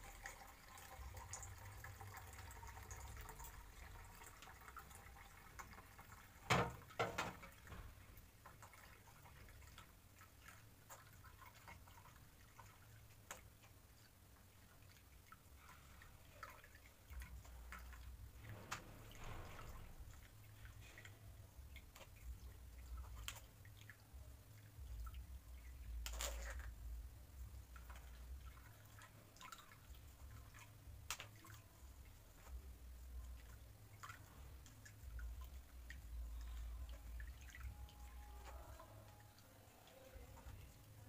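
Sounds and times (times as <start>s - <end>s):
juice trickling and dripping: 0.0s - 41.0s.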